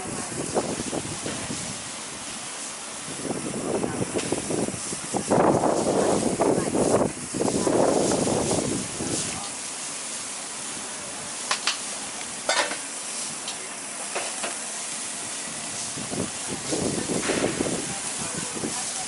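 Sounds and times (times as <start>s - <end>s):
food sizzling on a griddle: 0.0s - 19.0s.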